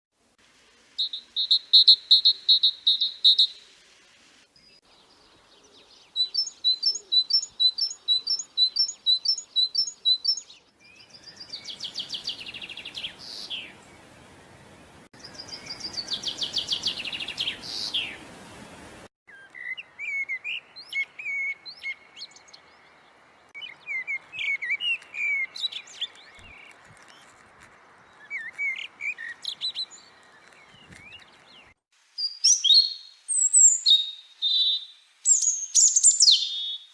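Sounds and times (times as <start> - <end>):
songbirds singing: 1.0 - 18.4, 19.3 - 36.9.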